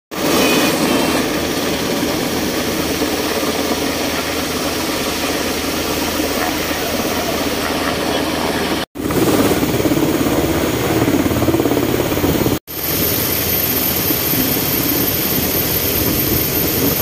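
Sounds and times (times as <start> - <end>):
helicopter engine noise: 0.1 - 17.0
helicopter rotor beating: 0.1 - 17.0.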